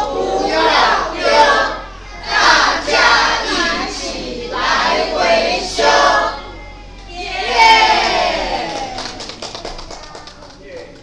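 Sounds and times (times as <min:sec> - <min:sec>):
group chanting in unison: 0:00.0 - 0:09.0.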